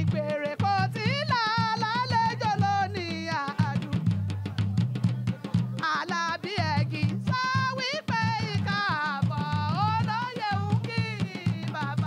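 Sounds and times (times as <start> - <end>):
drums playing fast rhythm: 0.0 - 12.0.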